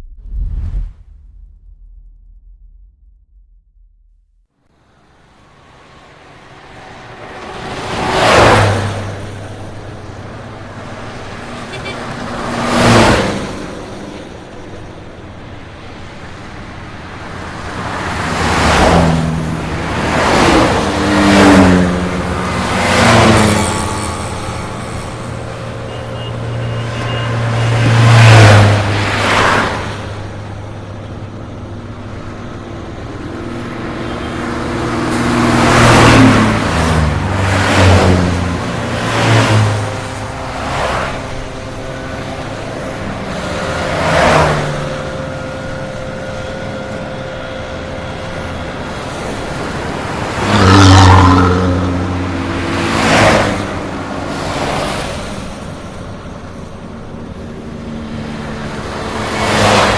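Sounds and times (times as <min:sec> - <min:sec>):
steady road noise: 0:00.0 - 0:59.9
vehicles passing by: 0:04.6 - 0:59.9.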